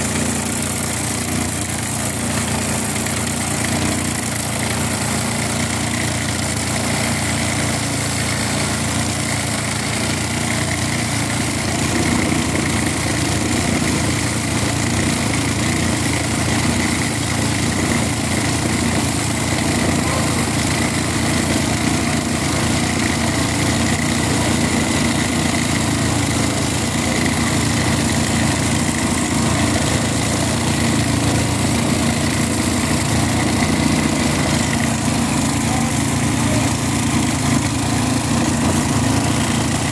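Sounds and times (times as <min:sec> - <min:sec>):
cutting disc grinding steel: 0:00.0 - 0:39.9
petrol engine running: 0:00.0 - 0:39.9.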